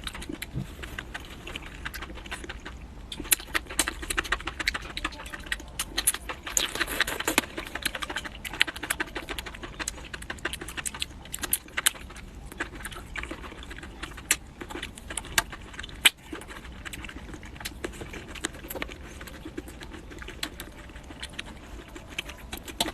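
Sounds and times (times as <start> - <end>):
crunchy chewing: 0.0 - 22.9.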